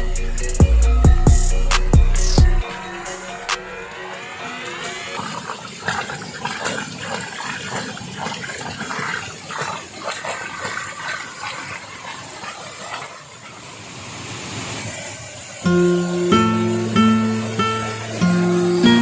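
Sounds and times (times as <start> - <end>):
waterfall pouring and splashing: 2.6 - 19.0.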